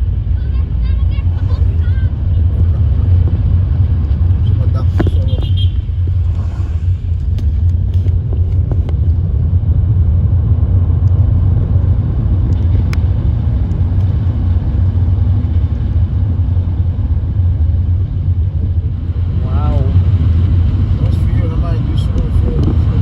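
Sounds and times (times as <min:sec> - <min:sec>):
vehicle rumble in motion: 0:00.0 - 0:23.0.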